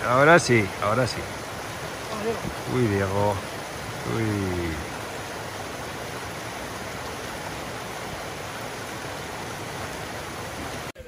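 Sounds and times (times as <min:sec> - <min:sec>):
brook water rushing: 0:00.0 - 0:11.0.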